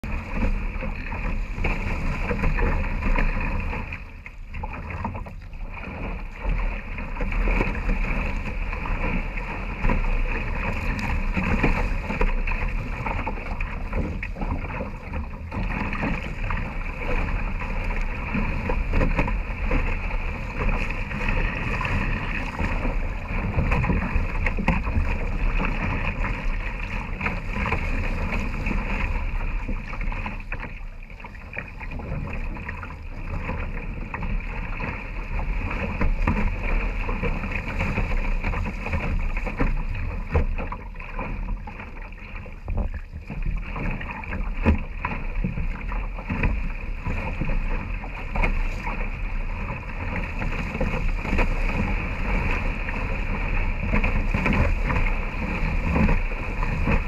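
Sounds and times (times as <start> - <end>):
water rushing along a canoe hull: 0.0 - 57.0.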